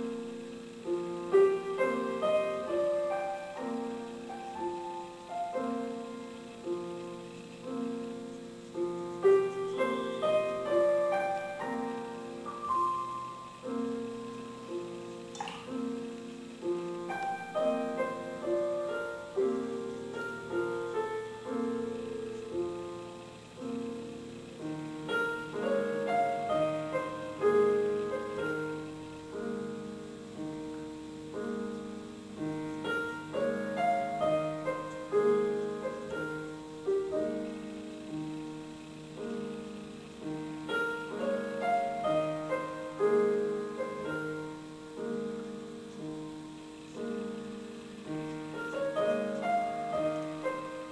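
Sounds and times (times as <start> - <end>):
gentle solo piano music: 0.0 - 50.9.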